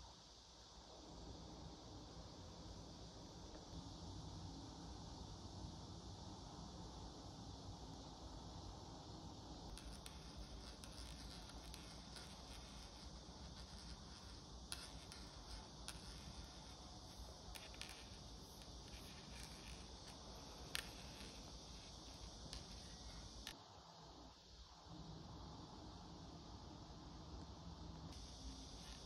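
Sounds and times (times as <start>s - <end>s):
faint high hiss: 0.0s - 29.0s.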